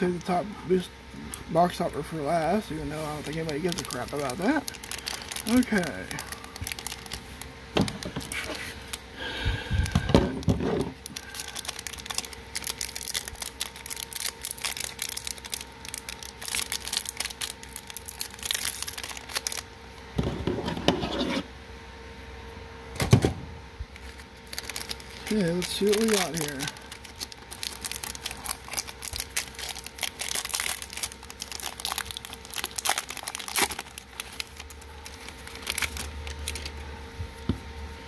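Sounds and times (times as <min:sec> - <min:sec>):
foil wrapper crinkling and tearing: 0:00.0 - 0:19.7, 0:23.9 - 0:36.9.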